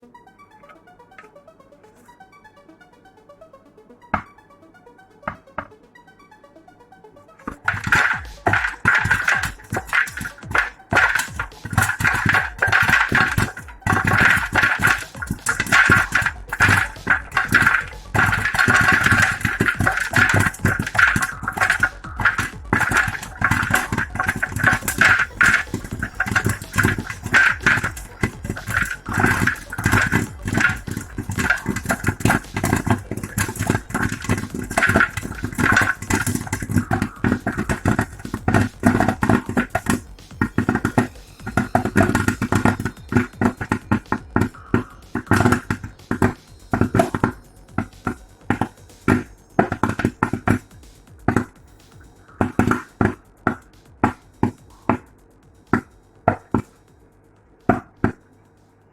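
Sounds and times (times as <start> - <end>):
popcorn kernels popping: 7.4 - 57.0, 57.6 - 58.3.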